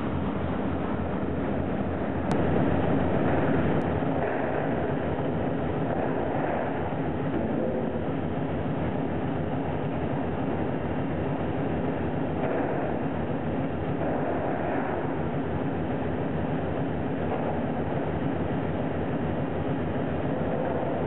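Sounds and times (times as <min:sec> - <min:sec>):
machinery rattling clatter: 0:00.0 - 0:21.0.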